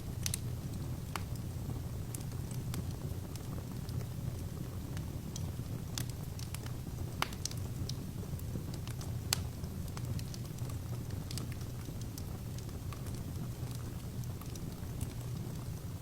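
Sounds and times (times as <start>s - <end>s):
burning logs rumbling: 0.0s - 16.0s
wood fire crackling: 0.0s - 16.0s.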